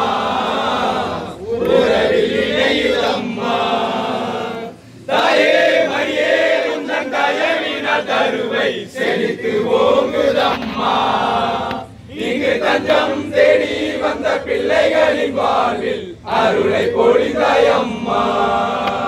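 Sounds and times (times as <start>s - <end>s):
men singing a hymn in unison: 0.0s - 19.0s.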